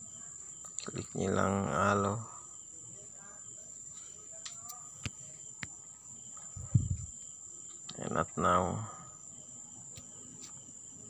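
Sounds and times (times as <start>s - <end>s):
high-pitched insect trill: 0.0s - 11.0s.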